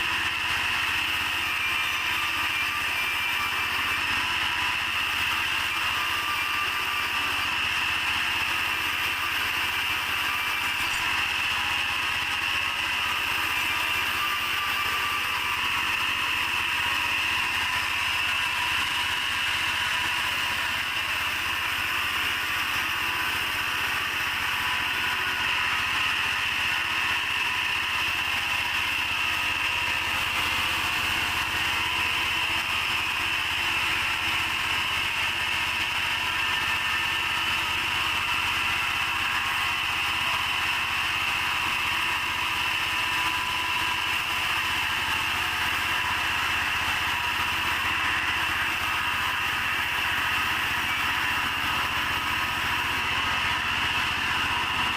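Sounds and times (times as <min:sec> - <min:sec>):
machinery high whine: 0:00.0 - 0:54.9.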